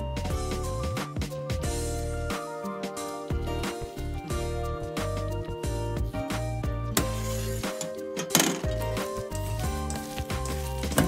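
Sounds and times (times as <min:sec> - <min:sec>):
bass line: 0:00.0 - 0:02.4, 0:03.3 - 0:07.7, 0:08.7 - 0:11.0
background music with held notes: 0:00.0 - 0:11.0.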